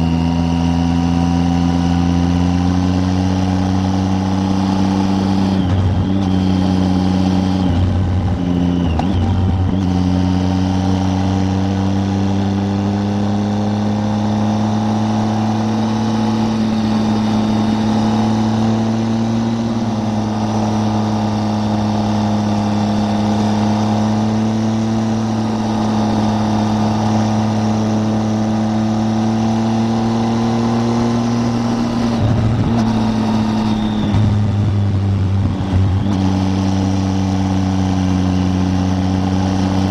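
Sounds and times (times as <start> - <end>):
motorcycle engine pulling on road: 0.0 - 39.9.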